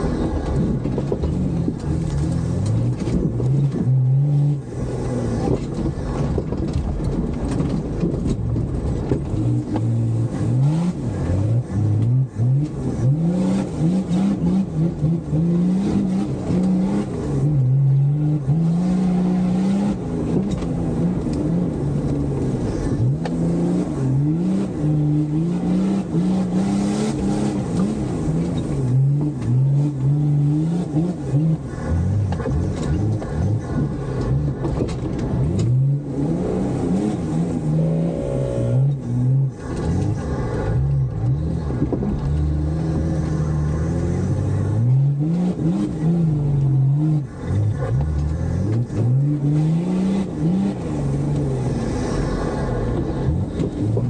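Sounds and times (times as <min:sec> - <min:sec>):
engine revving: 0:09.3 - 0:54.0.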